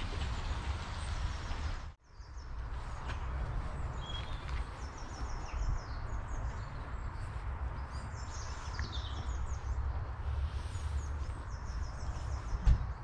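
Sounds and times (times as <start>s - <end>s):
wind rumble on microphone: 0.0s - 13.0s
small birds chirping: 0.2s - 13.0s.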